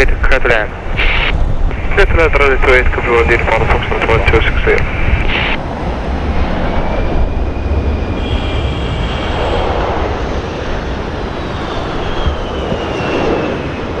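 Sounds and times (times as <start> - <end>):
faint high engine whine: 0.0 - 14.0
jet engines low rumble: 0.0 - 14.0.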